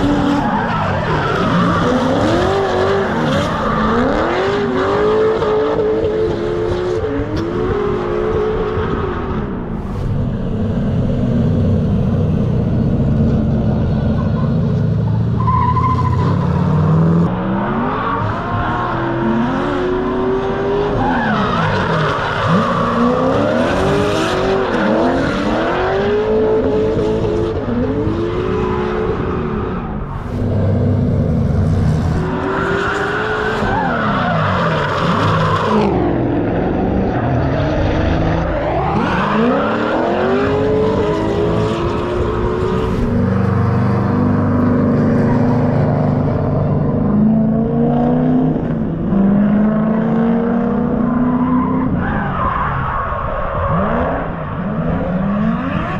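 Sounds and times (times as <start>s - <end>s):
tyres skidding and squealing: 0.0s - 47.6s, 50.7s - 55.9s
car engines revving: 0.0s - 55.9s.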